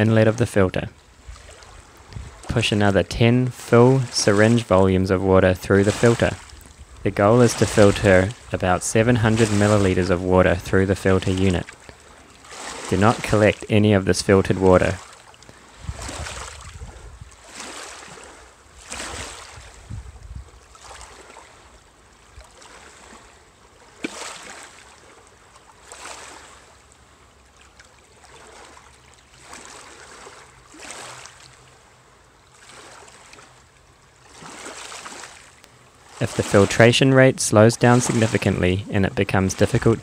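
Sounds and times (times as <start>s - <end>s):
small waves lapping: 0.0s - 40.0s.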